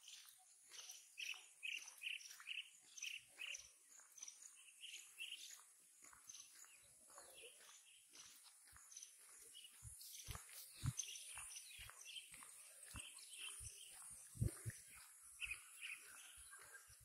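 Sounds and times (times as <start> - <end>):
birds giving higher calls: 0.0 - 17.0.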